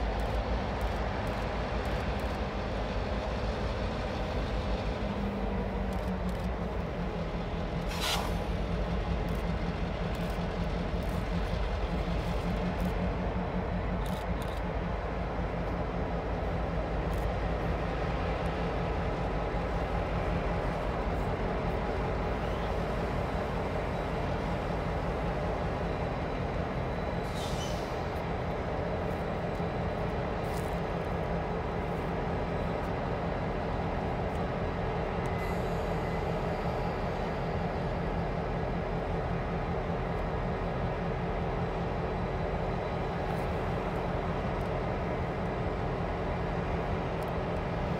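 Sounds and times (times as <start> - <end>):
diesel locomotive engine drone: 0.0 - 47.9.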